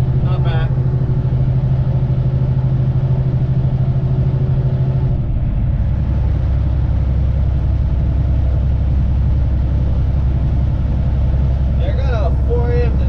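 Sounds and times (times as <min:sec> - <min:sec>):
road noise: 0:00.0 - 0:13.0
truck diesel engine running: 0:00.0 - 0:13.0.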